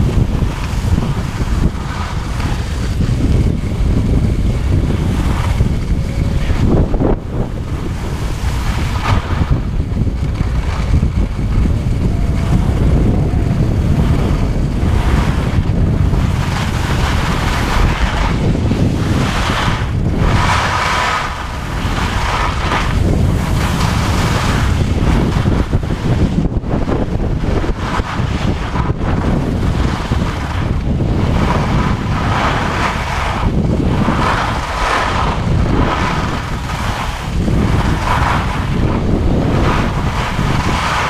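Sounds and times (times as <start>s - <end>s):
skis scraping on snow: 0.0s - 41.0s
wind buffeting microphone: 0.0s - 41.0s.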